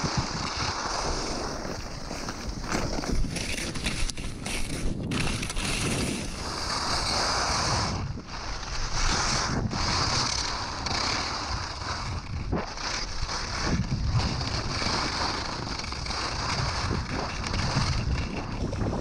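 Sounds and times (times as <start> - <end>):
skis scraping on icy snow: 0.0 - 19.0
wind rumbling on microphone: 0.0 - 19.0.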